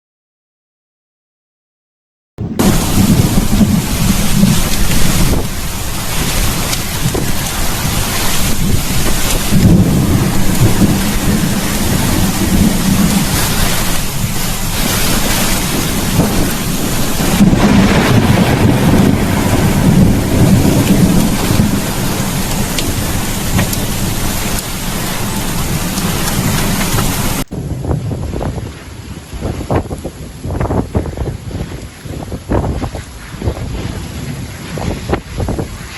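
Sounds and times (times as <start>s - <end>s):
heavy rain: 2.4s - 31.8s
low rumbling thunder: 2.4s - 32.9s
gusty wind: 2.4s - 35.9s
wind buffeting microphone: 2.4s - 35.9s.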